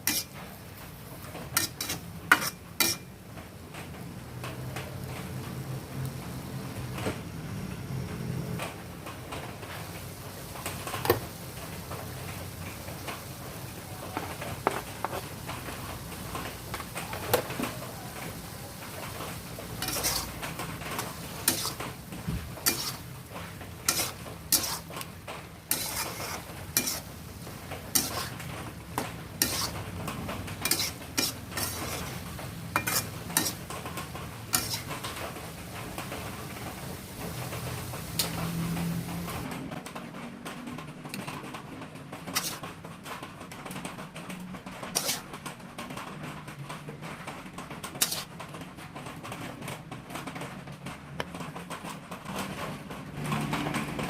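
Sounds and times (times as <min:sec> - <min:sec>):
light sizzle: 0:00.0 - 0:54.0.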